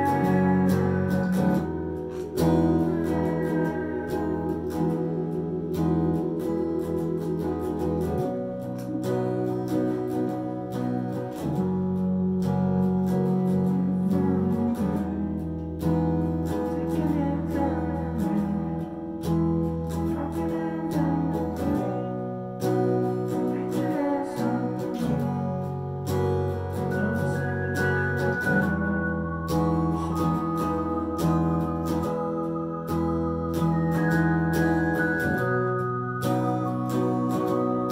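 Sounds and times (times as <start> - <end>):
electric guitar chords: 0.0 - 37.9
keyboard sustained chords: 0.0 - 37.9.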